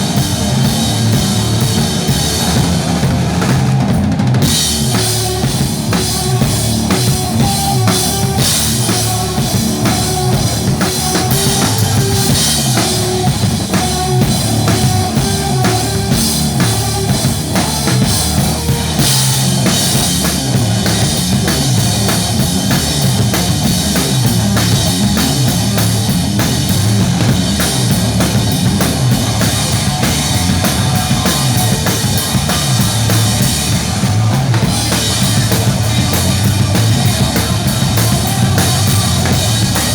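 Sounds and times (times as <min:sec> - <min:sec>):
band playing rock music: 0:00.0 - 0:39.9
drum kit beat: 0:00.0 - 0:39.9.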